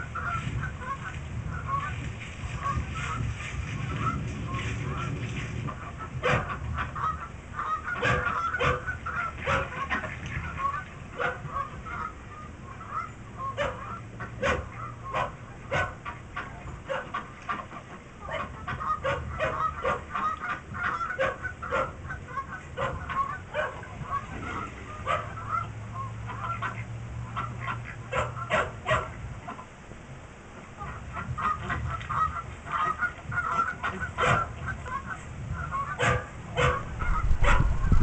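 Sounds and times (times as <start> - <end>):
geese honking through tv speakers: 0.0 - 29.8, 30.6 - 38.0.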